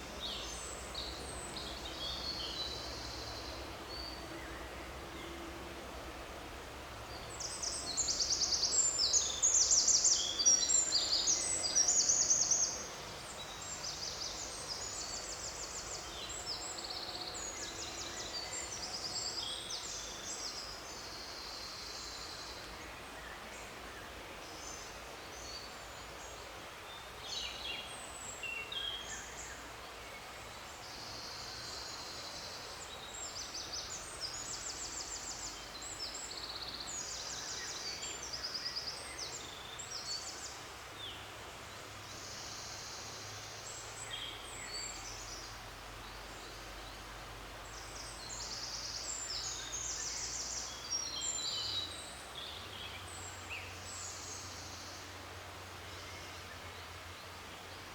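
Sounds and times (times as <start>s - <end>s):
faint forest background: 0.0s - 57.9s
songbirds trilling and chirping: 7.1s - 57.9s.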